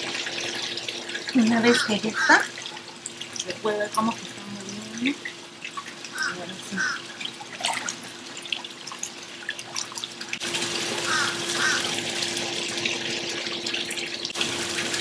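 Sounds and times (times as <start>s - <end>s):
pool water gurgling and splashing: 0.0s - 15.0s.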